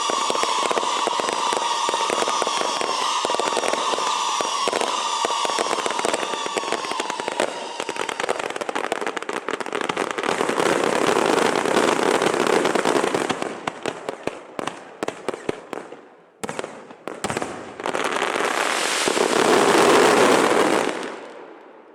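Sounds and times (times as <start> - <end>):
firecrackers crackling: 0.0 - 15.8, 16.6 - 21.4.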